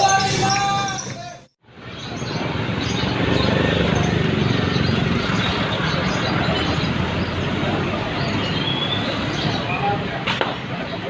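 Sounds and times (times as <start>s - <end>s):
indistinct crowd chatter: 0.0s - 11.0s.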